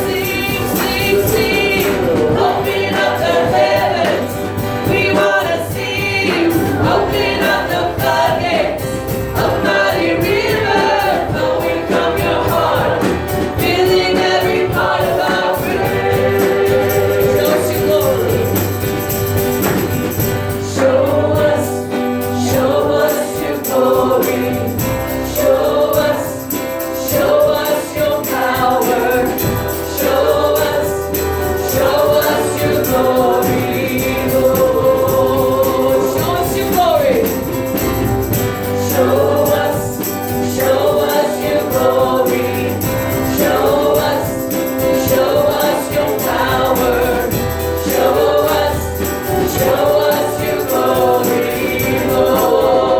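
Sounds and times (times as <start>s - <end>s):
band accompaniment: 0.0s - 52.9s
group singing worship song: 0.0s - 52.9s.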